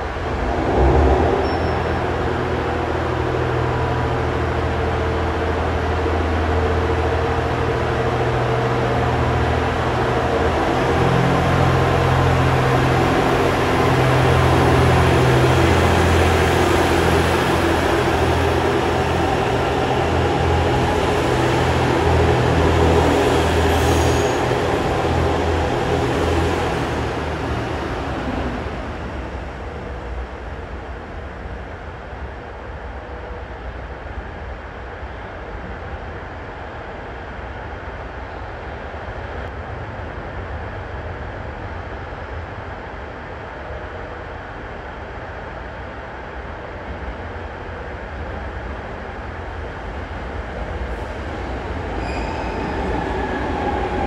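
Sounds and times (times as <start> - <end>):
train running hum: 0.0 - 54.0.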